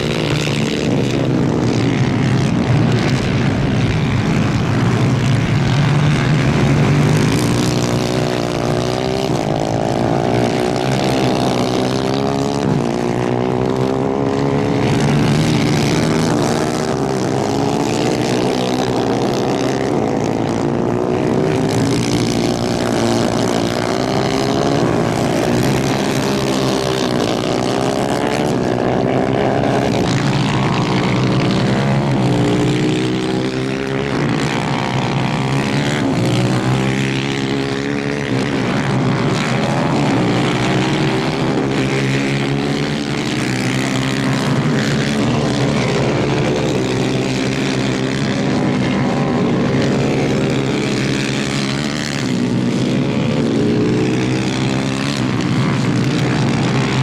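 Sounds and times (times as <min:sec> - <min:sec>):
racing kart engines revving: 0:00.0 - 0:57.0.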